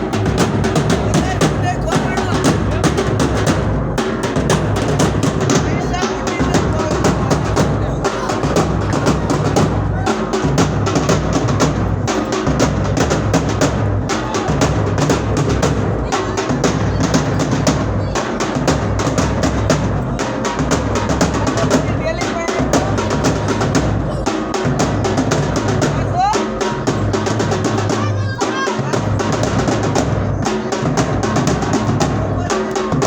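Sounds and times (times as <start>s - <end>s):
drums playing fast beat: 0.0s - 33.0s.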